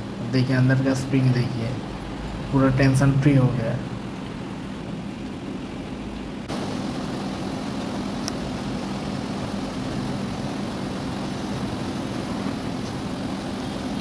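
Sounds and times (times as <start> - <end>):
boiler machinery drone: 0.0 - 14.0.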